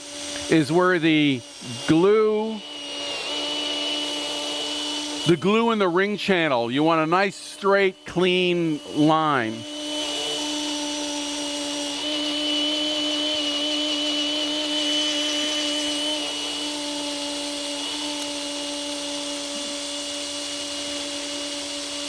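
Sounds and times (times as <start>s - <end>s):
cordless drill motor running: 0.0s - 22.0s.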